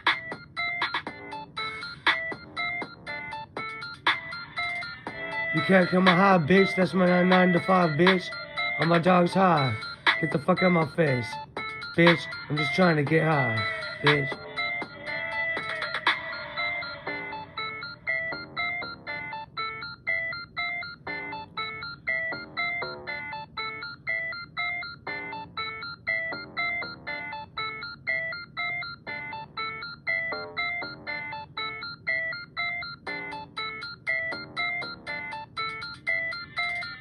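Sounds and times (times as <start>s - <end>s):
bell-like synth melody: 0.0s - 37.0s.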